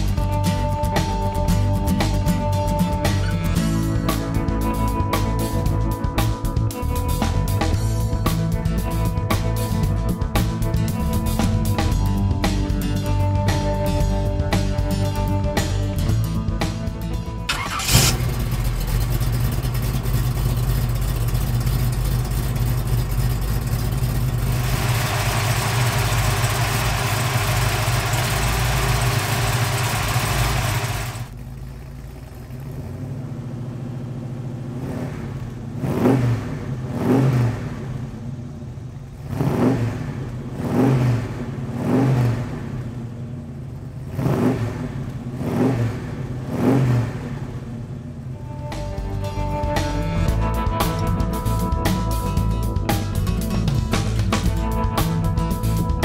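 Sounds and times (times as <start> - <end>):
big-block engine idling and revving: 0.0 - 56.0.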